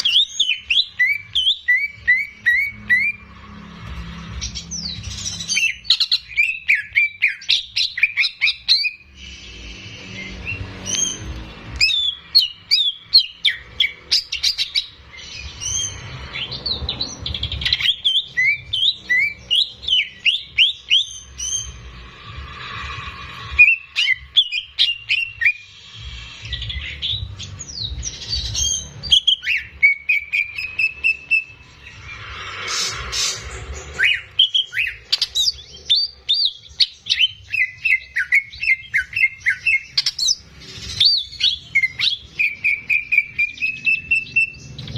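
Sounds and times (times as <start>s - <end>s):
bird chirping and whistling: 0.0s - 3.3s, 4.4s - 44.9s.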